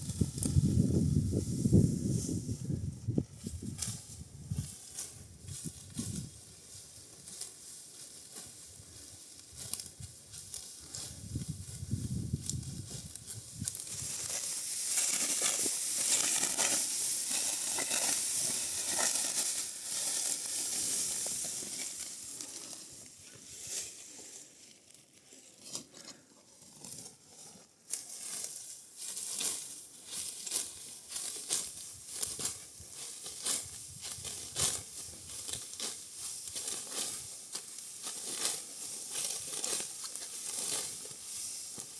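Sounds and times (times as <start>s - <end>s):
wheat stalks crunching and rustling: 0.0s - 41.9s.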